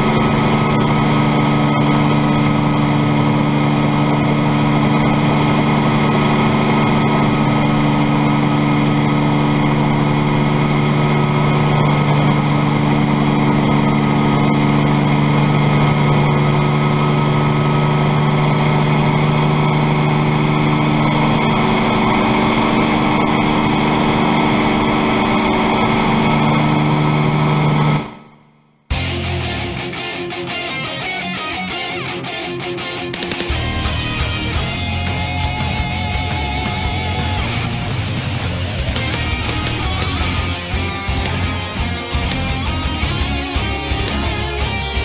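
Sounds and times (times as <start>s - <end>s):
helicopter engine and rotor hum: 0.0s - 28.3s, 33.1s - 45.0s.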